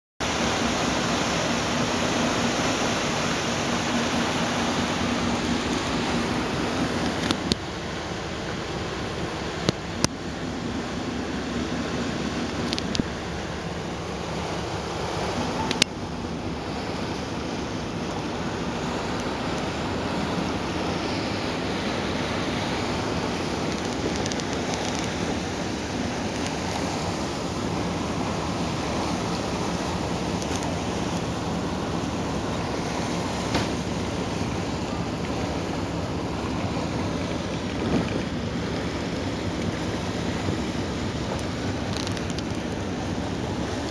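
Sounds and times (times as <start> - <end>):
low engine drone: 0.2 - 43.9
water churning along hull: 0.2 - 43.9
wind buffeting microphone: 0.2 - 43.9.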